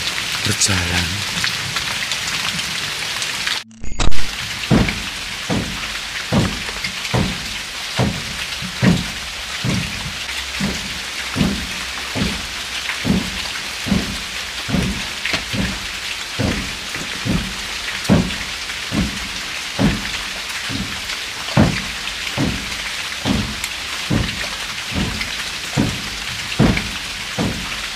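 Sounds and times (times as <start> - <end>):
rain hissing: 0.0 - 27.9.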